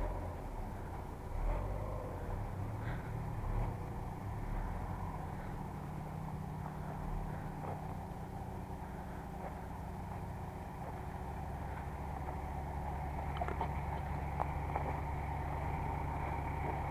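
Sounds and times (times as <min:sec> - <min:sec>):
car engine humming: 0:00.0 - 0:16.9.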